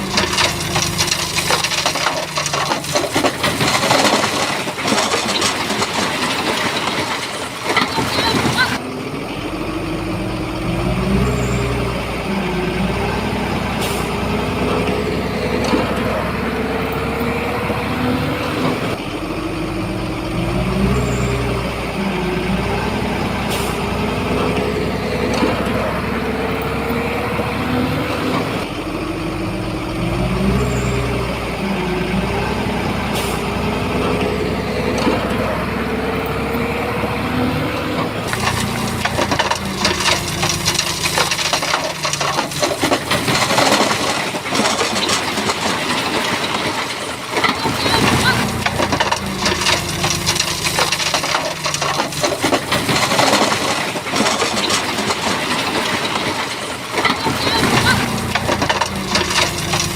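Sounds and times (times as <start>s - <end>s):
bulldozer diesel engine working: 0.0s - 59.9s.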